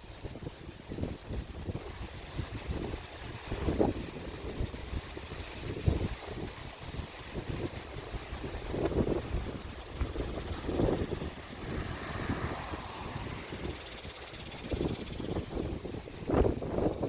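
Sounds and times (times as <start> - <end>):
wind gusts buffeting microphone: 0.0 - 17.0.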